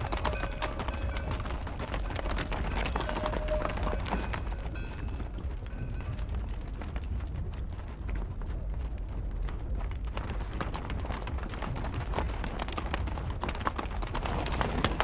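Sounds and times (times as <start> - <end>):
horse hoofbeats on stony ground: 0.0 - 15.0.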